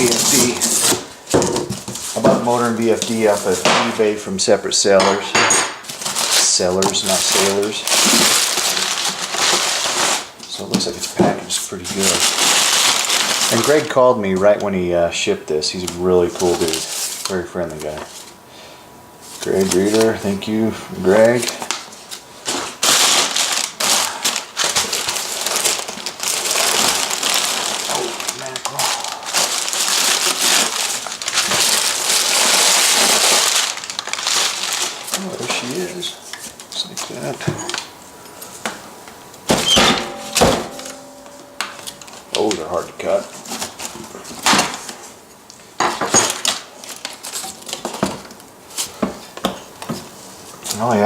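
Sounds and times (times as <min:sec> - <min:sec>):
packaging crinkling and rustling: 0:00.0 - 0:04.9, 0:05.8 - 0:14.9, 0:15.7 - 0:18.4, 0:19.2 - 0:51.0.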